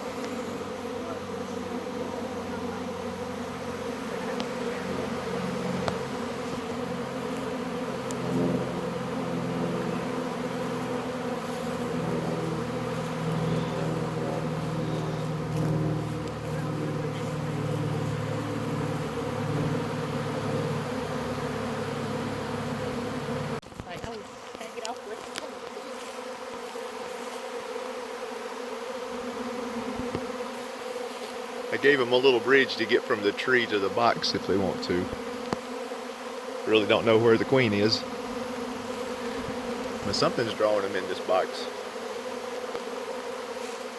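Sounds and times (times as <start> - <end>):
bee swarm buzzing: 0.0 - 43.9
single bees gliding past: 0.0 - 43.9.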